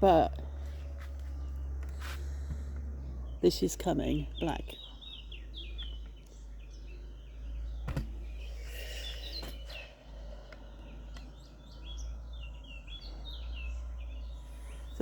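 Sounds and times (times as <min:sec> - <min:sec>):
songbirds chirping and trilling: 0:00.0 - 0:15.0
steady low rumble: 0:00.0 - 0:15.0.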